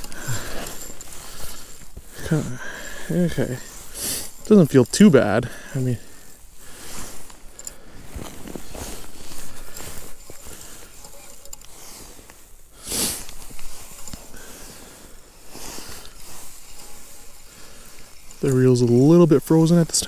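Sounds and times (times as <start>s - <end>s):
fishing reel cranking: 0.0s - 8.0s, 8.6s - 20.0s
jacket sleeves rustling: 0.0s - 20.0s.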